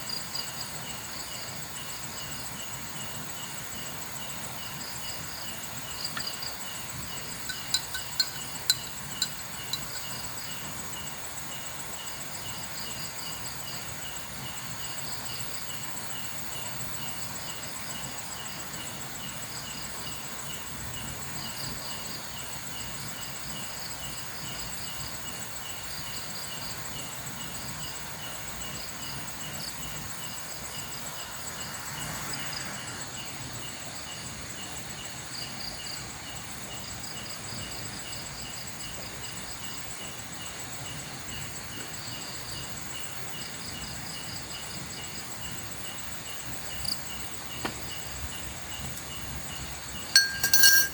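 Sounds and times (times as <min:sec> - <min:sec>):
constant high insect buzz: 0:00.0 - 0:50.9
crickets and insects chirping: 0:00.0 - 0:50.9.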